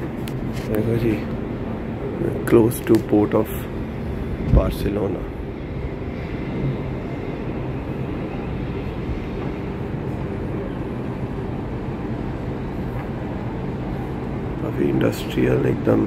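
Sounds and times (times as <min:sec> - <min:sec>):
faint hum: 0:00.0 - 0:16.0
ship deck rumble: 0:00.0 - 0:16.0.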